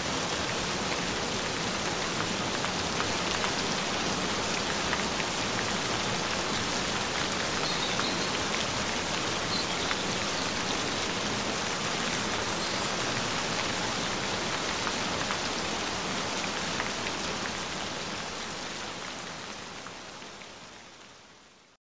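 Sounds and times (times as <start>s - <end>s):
gentle rain patter: 0.0s - 21.8s.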